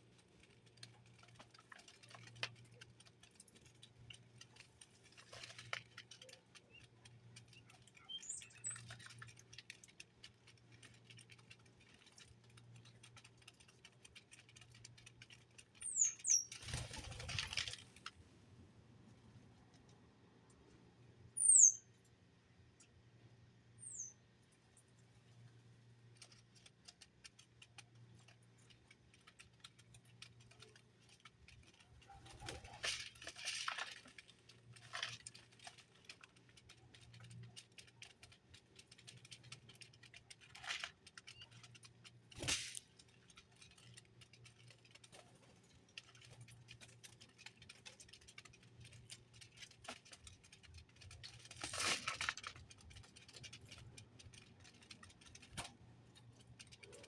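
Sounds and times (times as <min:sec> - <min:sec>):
birds pecking and scratching: 0:00.0 - 0:57.0.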